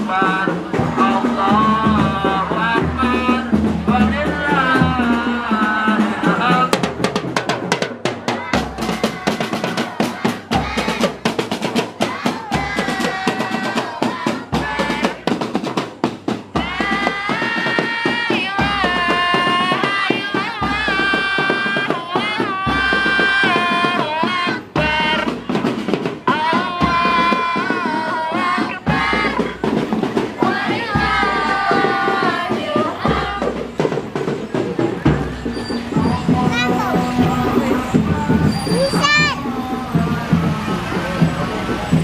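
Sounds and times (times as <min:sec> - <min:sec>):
band drumming with snare rolls: 0:00.0 - 0:42.0
low bass drum beat: 0:00.0 - 0:42.0.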